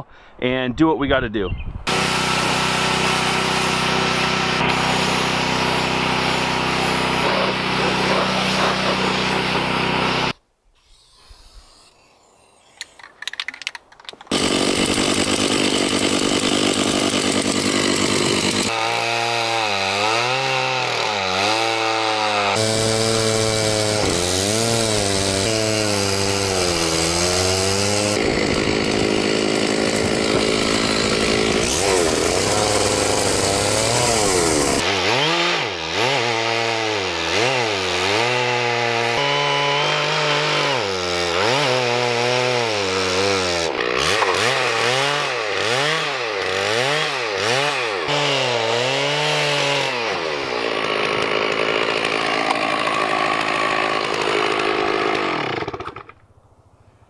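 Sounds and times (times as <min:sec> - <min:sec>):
chainsaw cutting log: 0:01.9 - 0:13.0, 0:14.1 - 0:56.4.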